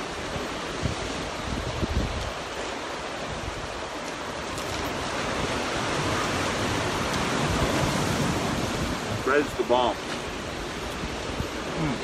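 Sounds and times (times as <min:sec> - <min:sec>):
surf washing over rocks: 0:00.0 - 0:12.0
wind rumble on microphone: 0:00.0 - 0:12.0.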